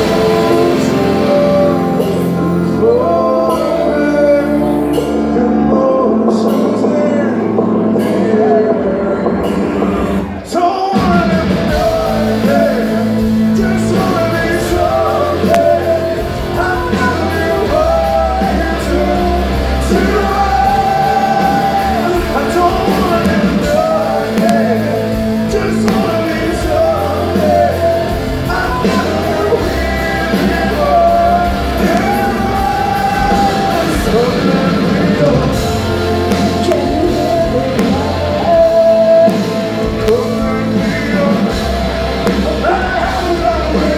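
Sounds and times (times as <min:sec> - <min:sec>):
live rock band playing: 0:00.0 - 0:43.9
man and woman singing duet: 0:00.0 - 0:43.9.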